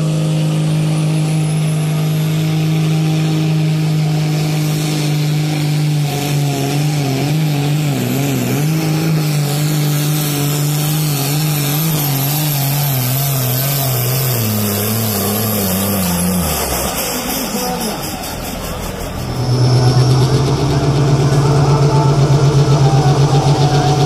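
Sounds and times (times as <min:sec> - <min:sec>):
tractor diesel engine running hard: 0:00.0 - 0:24.0.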